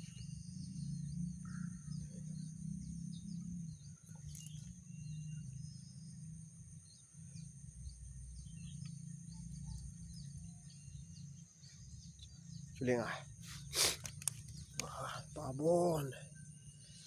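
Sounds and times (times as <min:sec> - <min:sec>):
high insect drone: 0:00.0 - 0:17.0
small birds chirping: 0:00.0 - 0:17.0.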